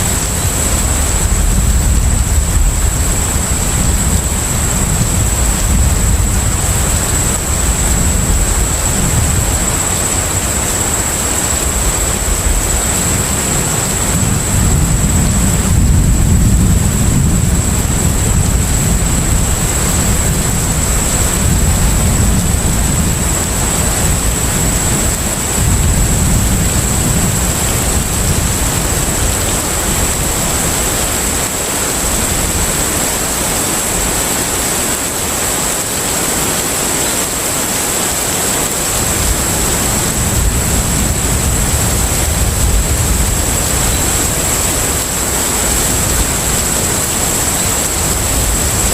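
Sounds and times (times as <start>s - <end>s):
wash of noise: 0.0s - 48.9s.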